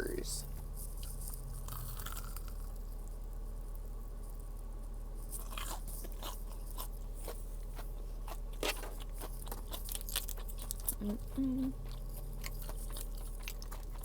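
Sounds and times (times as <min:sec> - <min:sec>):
crunching crispy fried food: 0:00.0 - 0:14.0.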